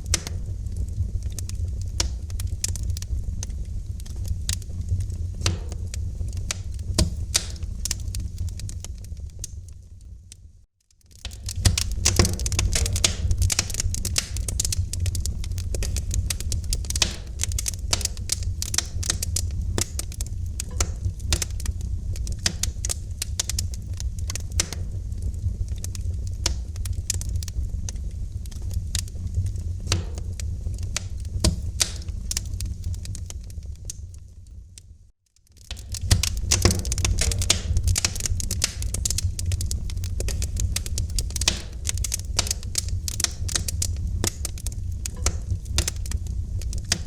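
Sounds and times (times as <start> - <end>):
low rumble of flames: 0.0 - 47.0
wood fire crackling and popping: 0.0 - 47.0.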